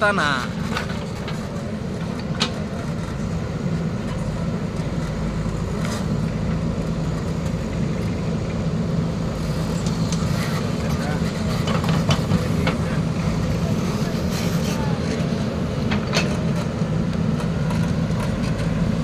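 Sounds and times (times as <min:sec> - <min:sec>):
heavy machine diesel engine running: 0:00.0 - 0:19.0.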